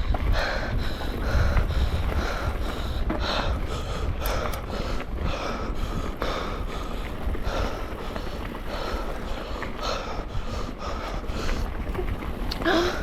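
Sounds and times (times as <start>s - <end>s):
mountain bike tyre noise: 0.0s - 13.0s
rider breathing hard: 0.0s - 13.0s
wind rumble on microphone: 0.0s - 13.0s.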